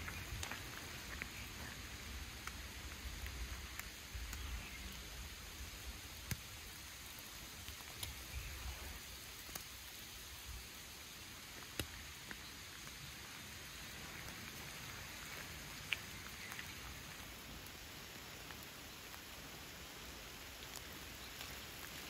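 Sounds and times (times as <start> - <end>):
light rain on leaves: 0.0 - 22.0.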